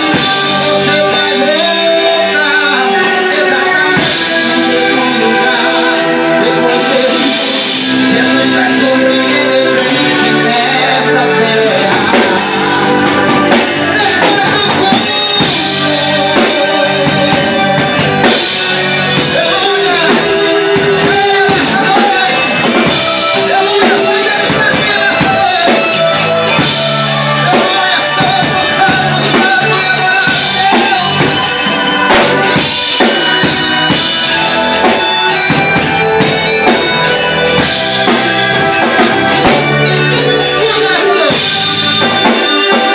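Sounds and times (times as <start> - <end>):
band playing music: 0.0 - 42.9
drum kit beat: 0.0 - 42.9
person singing: 0.0 - 42.9.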